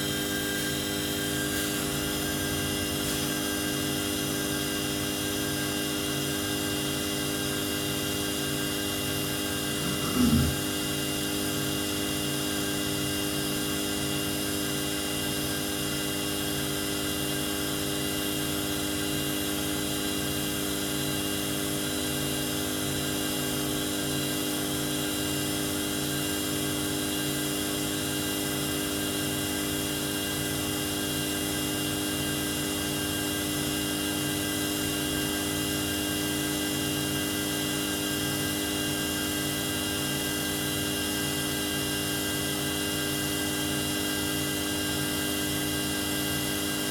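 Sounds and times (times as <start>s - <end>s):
lathe machine whine: 0.0s - 46.9s.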